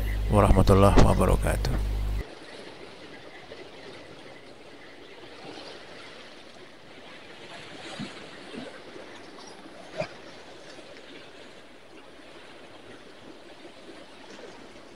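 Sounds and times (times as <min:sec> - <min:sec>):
small sea waves on rocks: 0:02.2 - 0:14.9.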